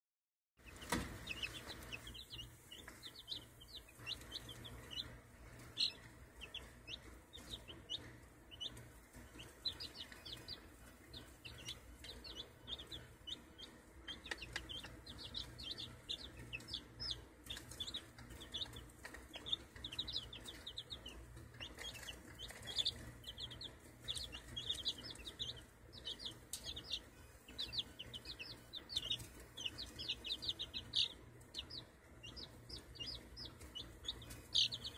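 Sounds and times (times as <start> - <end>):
chicks peeping: 0.6 - 34.9
faint low hum: 0.6 - 34.9.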